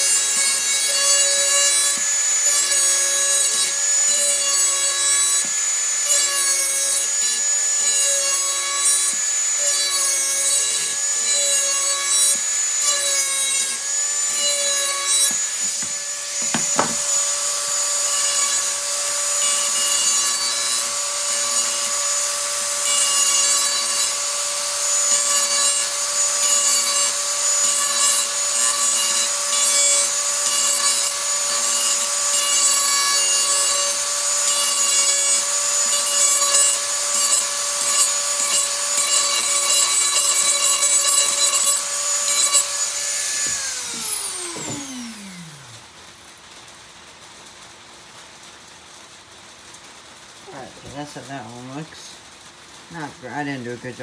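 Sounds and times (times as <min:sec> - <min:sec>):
electric grinder whining on steel: 0:00.0 - 0:45.9.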